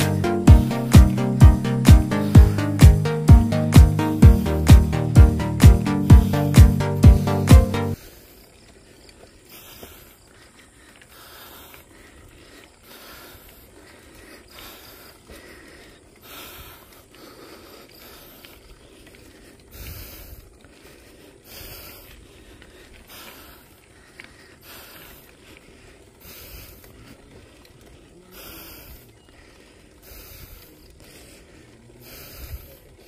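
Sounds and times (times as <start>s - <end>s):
person breathing hard: 0.0s - 33.0s.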